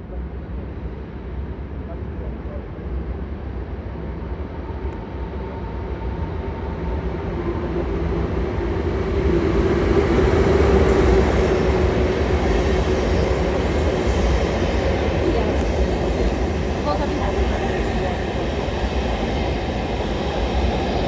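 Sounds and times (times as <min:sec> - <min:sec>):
train hum: 0:00.0 - 0:21.0
train wheels rumbling: 0:00.0 - 0:21.0.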